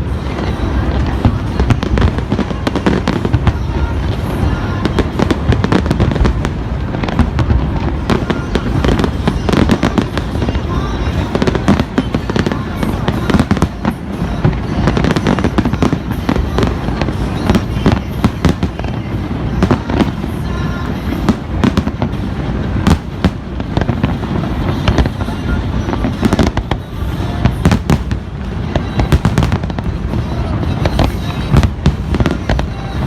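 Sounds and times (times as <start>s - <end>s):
continuous low rumble: 0.0s - 33.0s
fireworks bangs: 0.0s - 33.0s.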